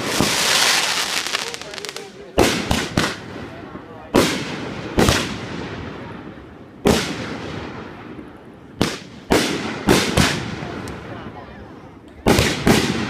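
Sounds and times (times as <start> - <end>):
fireworks bursting: 0.0 - 11.4, 12.2 - 13.0.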